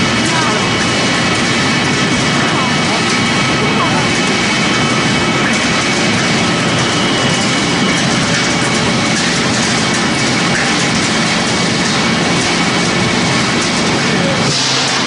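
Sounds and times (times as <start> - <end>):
pellet machine running: 0.0 - 15.0.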